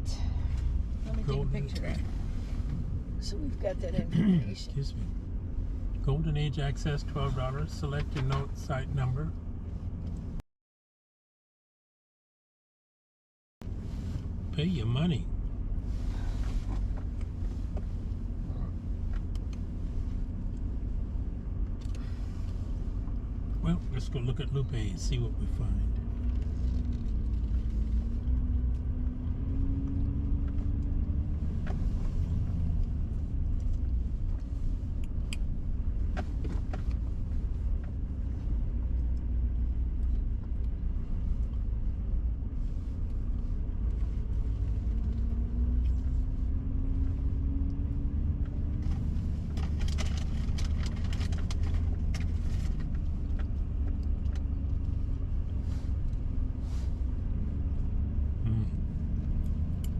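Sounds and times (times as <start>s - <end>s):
car engine and road rumble: 0.0s - 10.4s, 13.6s - 59.9s.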